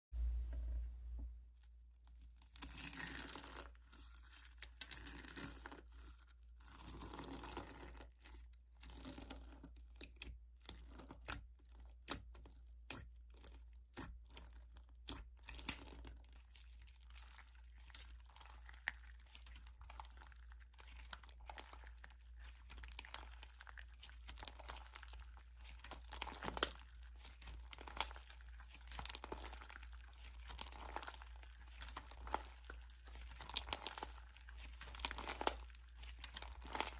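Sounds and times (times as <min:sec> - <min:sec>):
slime being squished by hand: 0:01.7 - 0:36.9.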